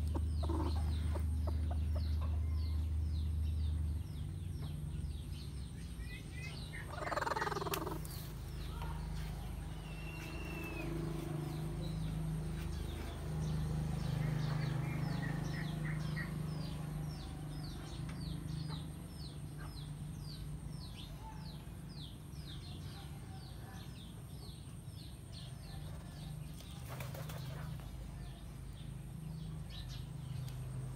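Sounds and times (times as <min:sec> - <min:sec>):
small bird chirping: 0:00.0 - 0:30.8.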